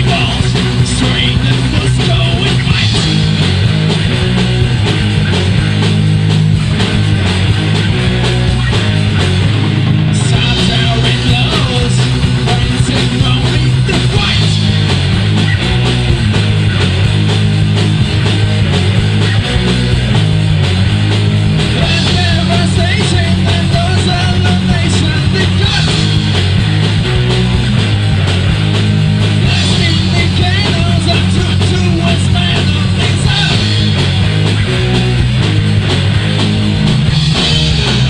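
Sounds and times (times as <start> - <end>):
distorted electric guitars: 0.0 - 38.0
drums: 0.0 - 38.0
pounding bass line: 0.0 - 38.0.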